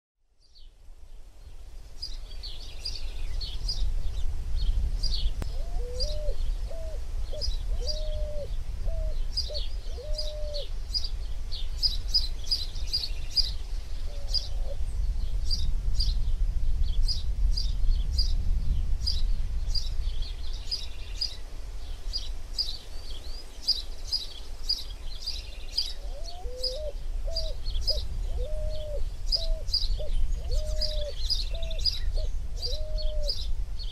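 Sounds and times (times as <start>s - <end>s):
birds chirping and singing: 2.0s - 33.9s.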